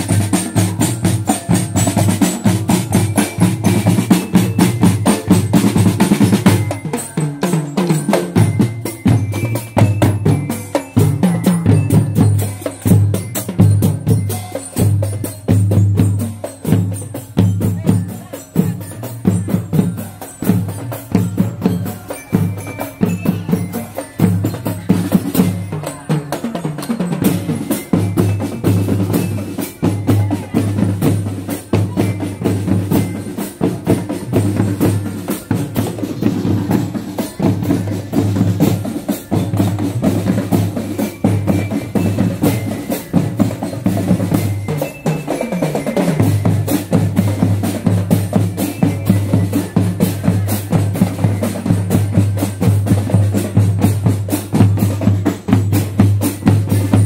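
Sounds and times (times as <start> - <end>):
tenor drums: 0.0 - 57.0.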